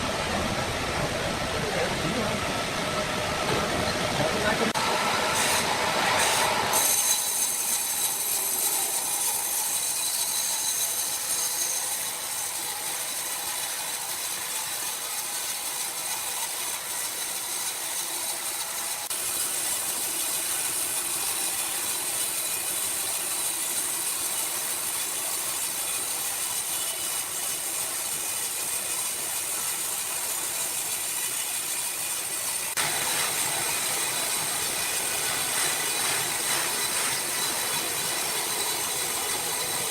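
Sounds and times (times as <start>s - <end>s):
sawmill machinery clatter and hiss: 0.0s - 39.9s.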